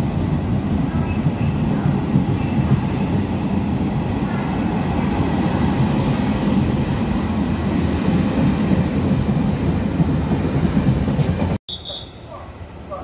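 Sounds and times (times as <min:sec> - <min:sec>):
train wheels rumbling on rails: 0:00.0 - 0:11.6.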